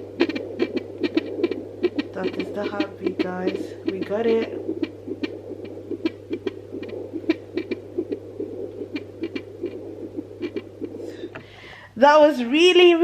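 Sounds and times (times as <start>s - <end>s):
fetal heartbeat whooshing pulses: 0.0s - 11.6s
steady low hum: 0.0s - 13.0s.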